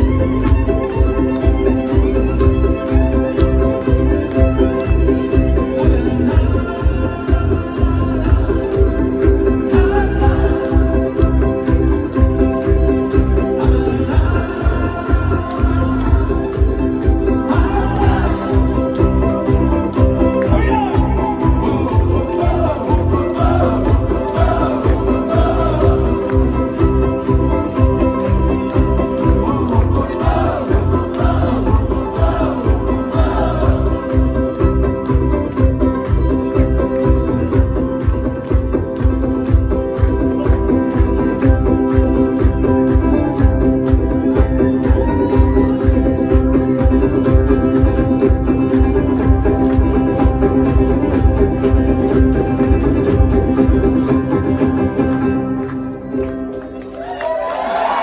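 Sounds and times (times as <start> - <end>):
pulsing bass beat: 0.0 - 55.4
live instrumental music: 0.0 - 58.0.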